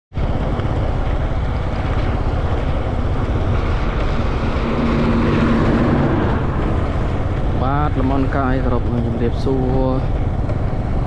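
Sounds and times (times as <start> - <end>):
vehicle rumble: 0.1 - 11.0
wind buffeting microphone: 0.1 - 11.0.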